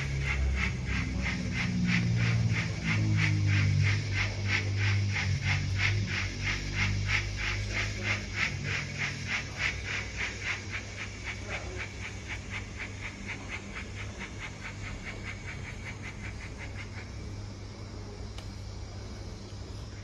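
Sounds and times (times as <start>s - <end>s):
simulated steam locomotive chuffs: 0.0s - 20.0s.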